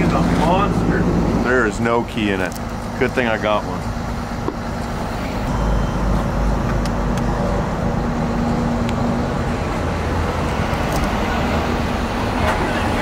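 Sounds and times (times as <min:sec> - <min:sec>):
steady hum: 0:00.0 - 0:13.0
vehicle engine rumbling: 0:00.0 - 0:13.0.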